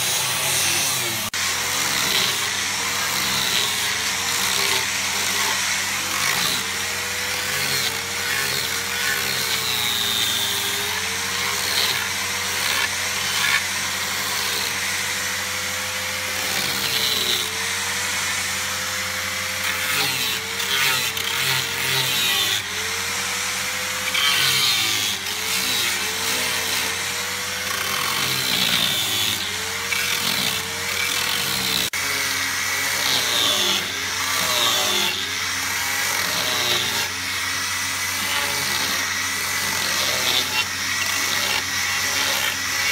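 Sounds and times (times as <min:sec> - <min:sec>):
router cutting wood: 0:00.0 - 0:42.9.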